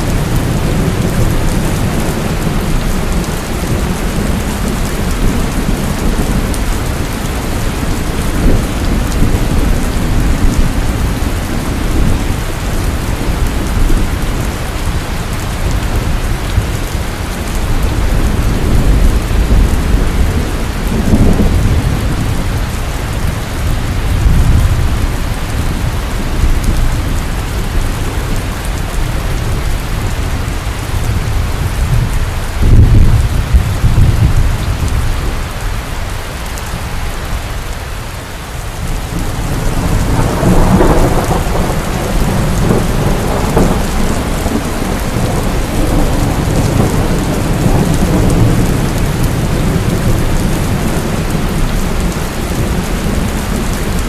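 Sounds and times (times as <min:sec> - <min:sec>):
rolling thunder: 0:00.0 - 0:35.6, 0:38.8 - 0:54.0
heavy rain: 0:00.0 - 0:54.0.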